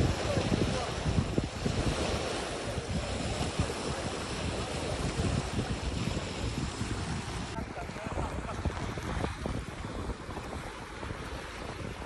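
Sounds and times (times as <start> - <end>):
small waves breaking on shore: 0.0 - 12.0
wind gusting on microphone: 0.0 - 12.0.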